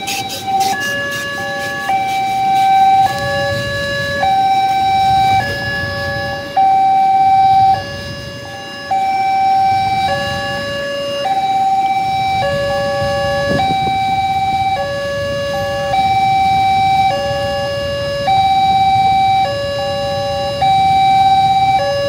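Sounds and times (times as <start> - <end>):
idling engines: 0.0 - 22.0
level crossing two-tone alarm: 0.0 - 22.0.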